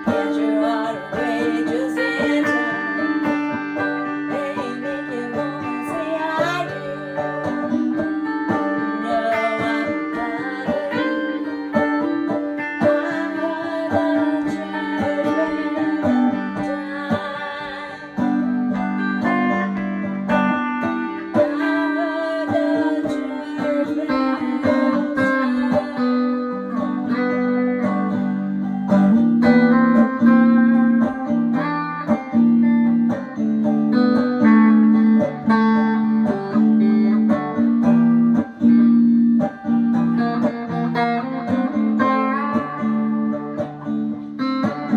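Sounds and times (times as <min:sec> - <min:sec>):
electric banjo: 0:00.0 - 0:44.9
electric guitar: 0:00.0 - 0:44.9.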